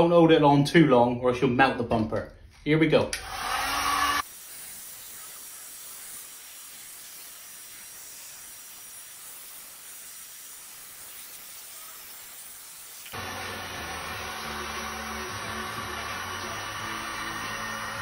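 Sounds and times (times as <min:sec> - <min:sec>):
heat gun blowing hot air: 0:03.2 - 0:18.0.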